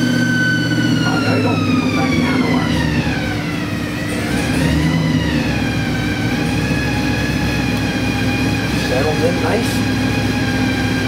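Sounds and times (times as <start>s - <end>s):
engine rumble: 0.0s - 11.0s
supercharger whine: 0.0s - 11.0s.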